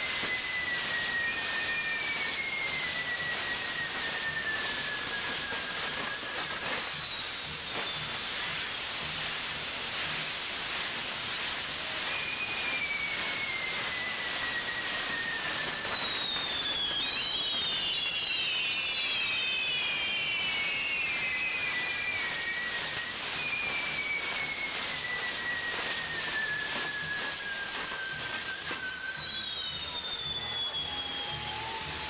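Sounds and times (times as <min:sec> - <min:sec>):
firework wheel hissing: 0:00.0 - 0:32.0
high whistling tones gliding down: 0:00.0 - 0:32.0.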